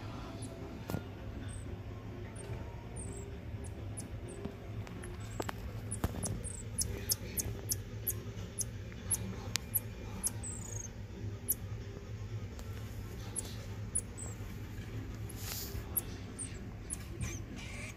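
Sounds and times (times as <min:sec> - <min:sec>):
steady low hum: 0:00.0 - 0:17.9
baby marmoset chirping: 0:01.4 - 0:11.7, 0:13.1 - 0:17.9.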